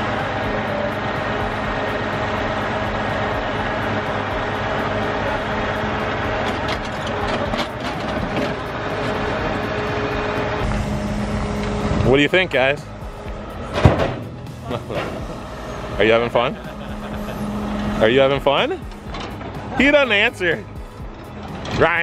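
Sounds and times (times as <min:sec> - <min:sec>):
engine under hydraulic load: 0:00.0 - 0:19.9.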